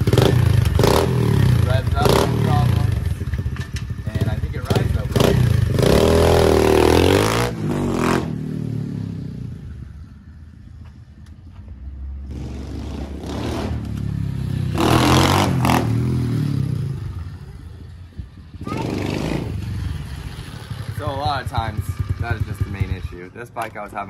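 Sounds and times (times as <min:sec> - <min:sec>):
motorbike engine revving: 0:00.0 - 0:09.8, 0:12.1 - 0:23.2.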